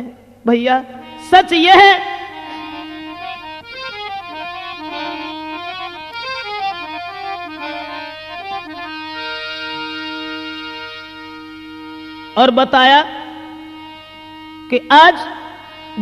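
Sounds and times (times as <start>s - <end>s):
harmonium playing: 0.0s - 16.0s.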